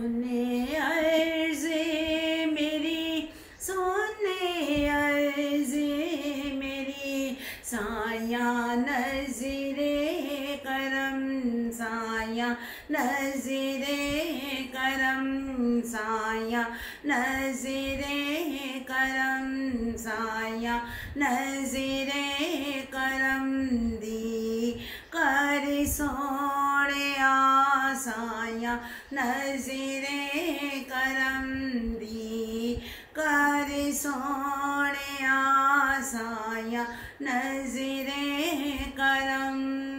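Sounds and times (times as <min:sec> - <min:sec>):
woman singing unaccompanied: 0:00.0 - 0:39.9.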